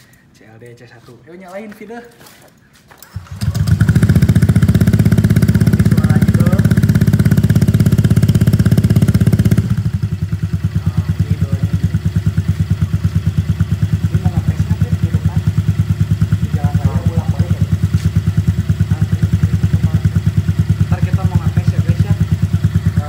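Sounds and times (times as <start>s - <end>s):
scooter engine idling: 3.1s - 23.0s.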